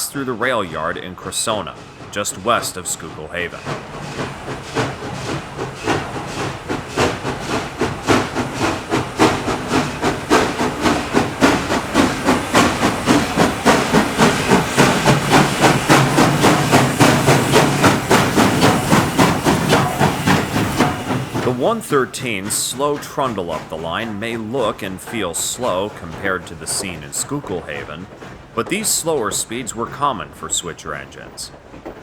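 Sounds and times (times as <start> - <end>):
steam hissing: 0.0 - 32.0
steam locomotive exhaust chuffs: 0.0 - 32.0.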